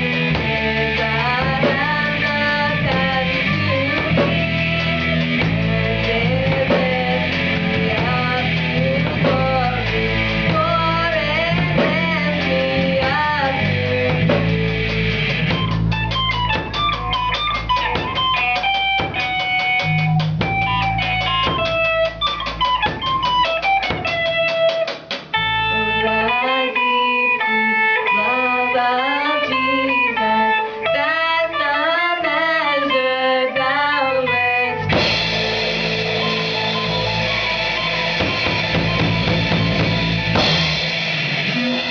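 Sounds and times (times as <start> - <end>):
band music led by guitar: 0.0 - 41.9.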